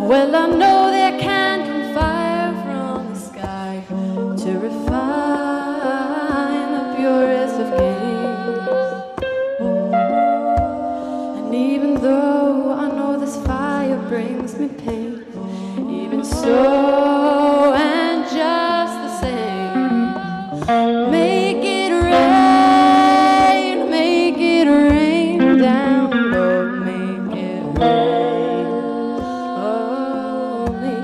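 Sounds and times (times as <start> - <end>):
acoustic guitar: 0.0 - 31.0
woman singing: 0.0 - 31.0.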